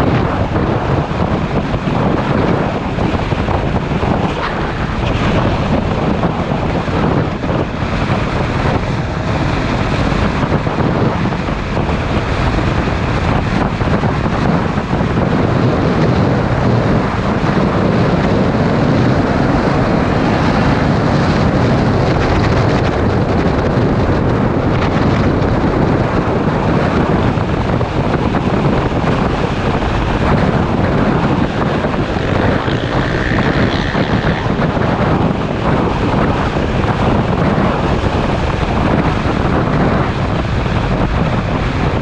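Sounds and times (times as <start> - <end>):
motorcycle engine: 0.0 - 42.0
road noise: 0.0 - 42.0
wind buffeting microphone: 0.0 - 42.0.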